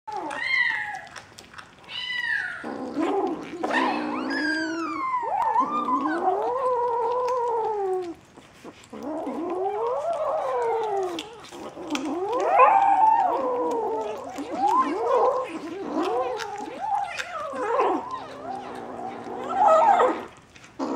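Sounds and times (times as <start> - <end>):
kittens yowling: 0.1 - 8.2, 9.0 - 20.9.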